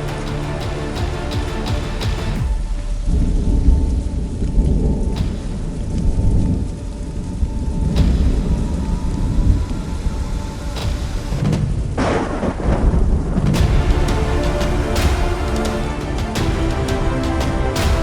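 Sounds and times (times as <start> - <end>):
music: 0.0 - 12.0, 13.6 - 18.0
loud low rumble: 0.0 - 18.0.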